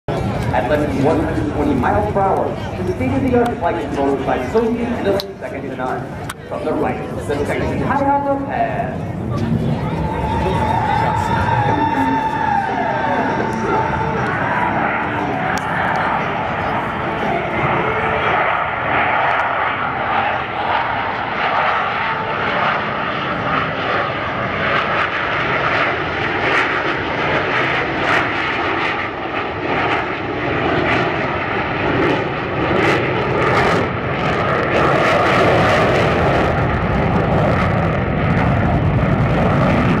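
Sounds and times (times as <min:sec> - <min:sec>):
jet engine roar: 0:00.1 - 0:40.0.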